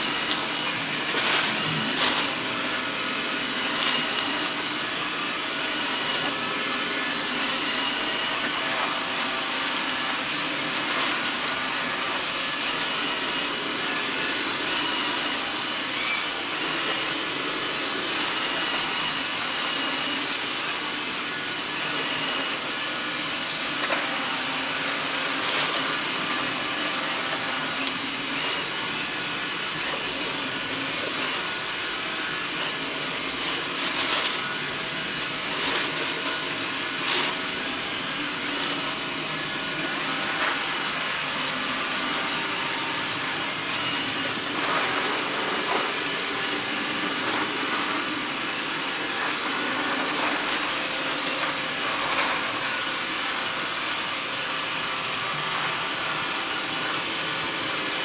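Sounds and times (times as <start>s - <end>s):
robot vacuum humming: 0.0s - 58.0s.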